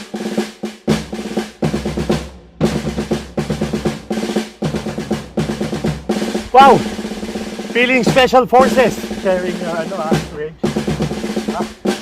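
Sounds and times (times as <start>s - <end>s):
fast drum beat with snare: 0.0s - 12.0s.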